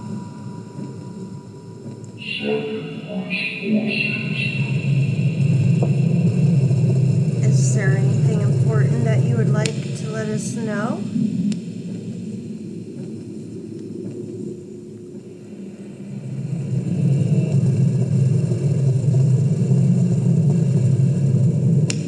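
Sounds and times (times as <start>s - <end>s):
low noisy rumble from speaker: 0.0s - 22.0s.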